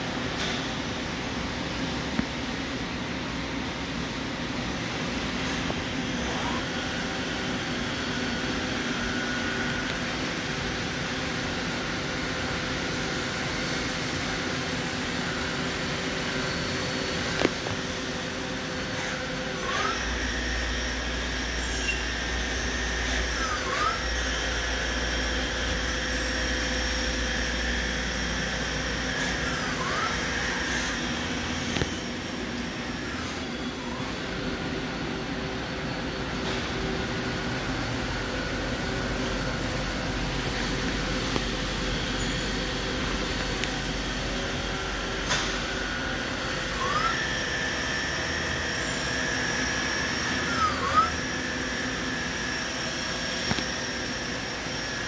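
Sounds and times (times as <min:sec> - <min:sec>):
lathe mechanical hum: 0:00.0 - 0:55.0.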